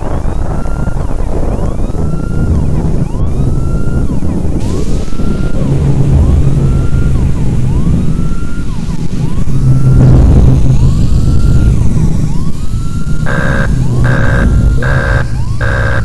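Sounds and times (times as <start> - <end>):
siren wailing: 0.0 - 16.0.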